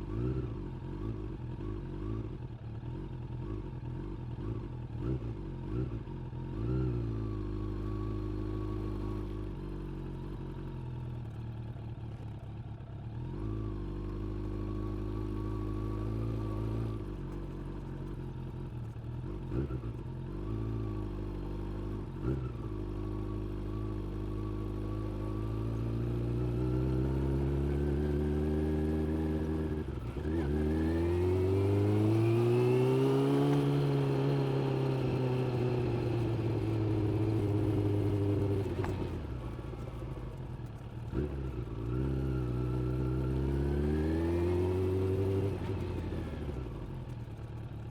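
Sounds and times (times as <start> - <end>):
motorcycle engine revving: 0.0 - 11.6, 13.1 - 47.9.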